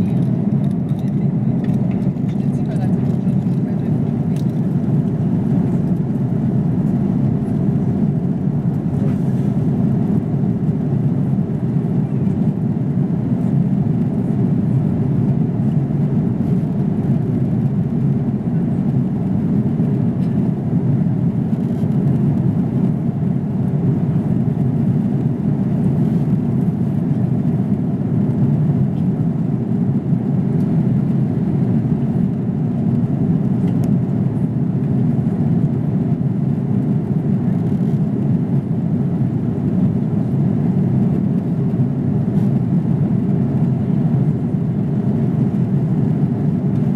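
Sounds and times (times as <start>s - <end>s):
airliner cabin rumble: 0.0s - 46.9s.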